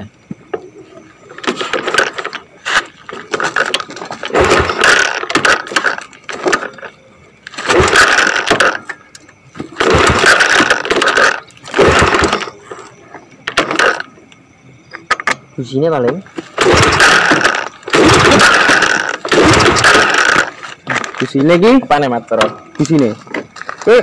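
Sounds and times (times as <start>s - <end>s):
motorcycle engine cranking: 1.3s - 14.2s, 16.2s - 24.0s.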